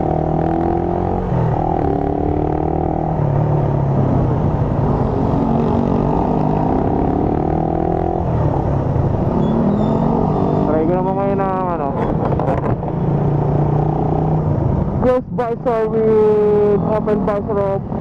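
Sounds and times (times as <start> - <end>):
road and wind rumble: 0.0 - 18.0.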